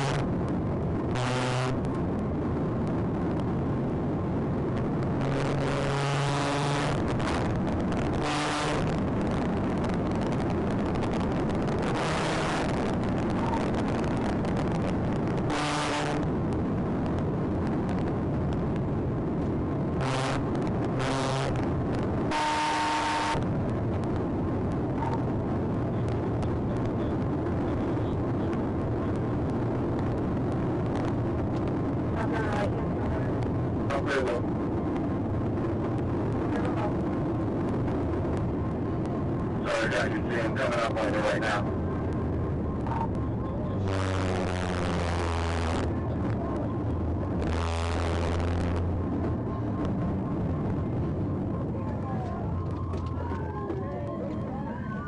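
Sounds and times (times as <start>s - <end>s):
car engine tyre and wind noise: 0.0s - 55.0s.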